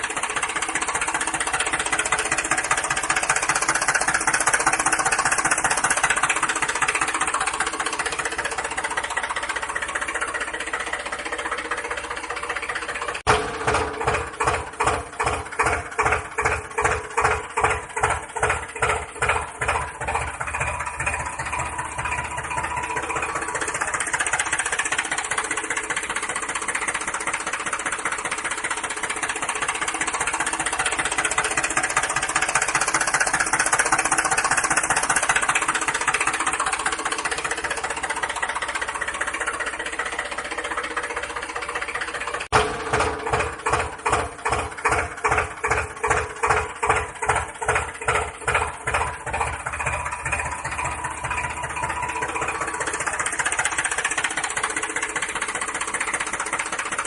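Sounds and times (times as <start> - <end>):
small motor chugging: 0.0 - 57.0.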